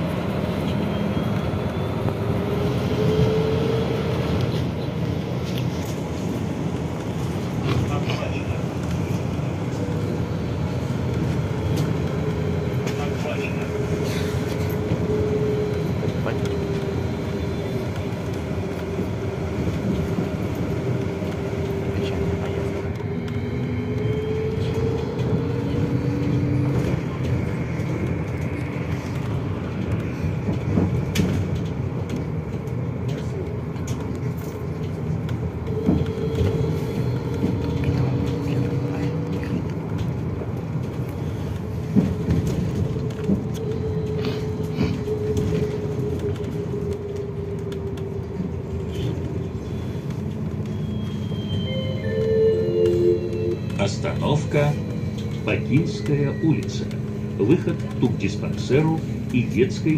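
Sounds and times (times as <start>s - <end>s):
tyres and body rumbling: 0.0s - 59.9s.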